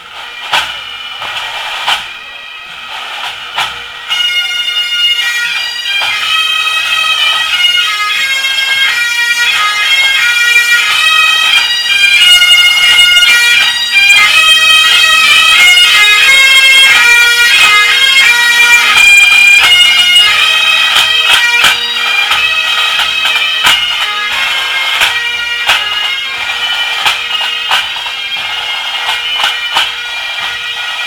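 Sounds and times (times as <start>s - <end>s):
drum strokes: 0.0s - 7.9s, 8.6s - 31.0s
bagpipe chanters playing a tune: 0.0s - 31.0s
bagpipe drones: 0.0s - 31.0s.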